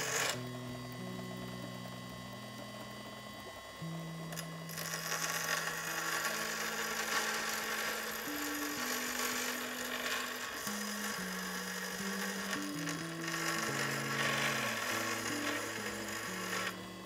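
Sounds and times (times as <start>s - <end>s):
bench grinder grinding metal: 0.0s - 17.0s.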